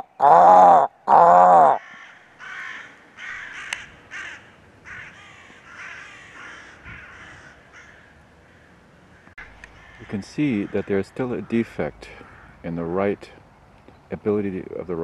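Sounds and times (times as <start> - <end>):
crows cawing: 0.0 - 12.7.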